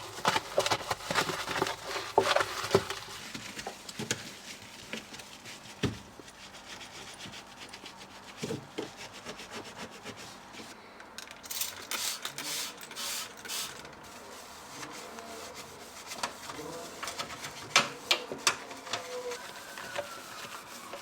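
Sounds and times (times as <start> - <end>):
cloth scrubbing plastic surfaces: 0.0 - 10.7, 14.0 - 21.0.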